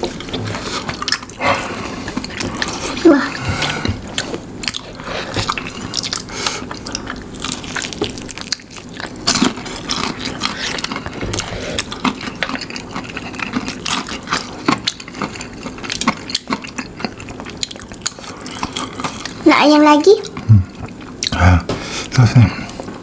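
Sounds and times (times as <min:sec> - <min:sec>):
chewing and lip smacking: 0:00.0 - 0:19.5, 0:20.1 - 0:21.4.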